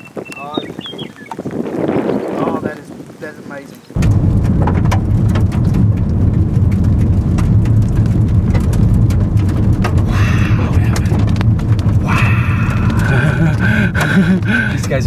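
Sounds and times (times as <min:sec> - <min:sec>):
strong wind buffeting microphone: 0:00.0 - 0:15.0
crackles: 0:01.2 - 0:15.0.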